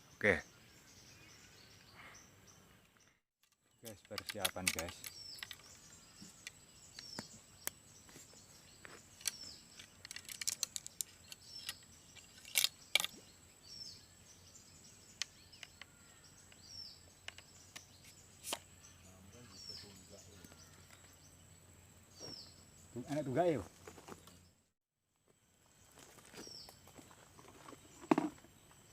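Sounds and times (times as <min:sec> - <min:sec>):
bird chirping: 0:00.0 - 0:24.7, 0:25.6 - 0:28.9.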